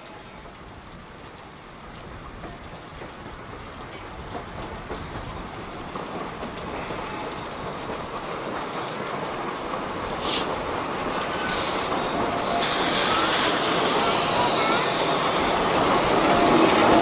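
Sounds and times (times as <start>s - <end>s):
steam locomotive approaching: 0.0s - 17.0s
wheels rumbling on track: 0.0s - 17.0s
steam hissing: 2.7s - 17.0s.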